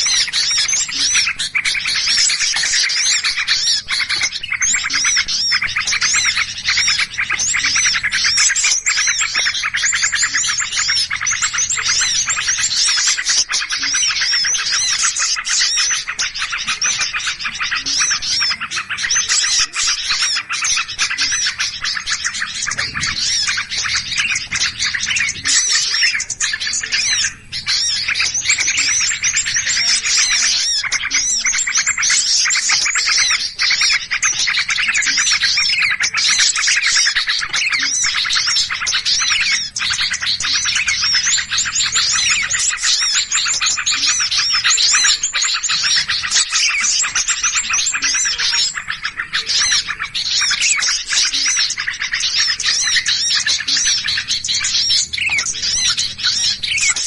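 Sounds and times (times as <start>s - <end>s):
small birds chirping and scolding: 0.0s - 57.0s.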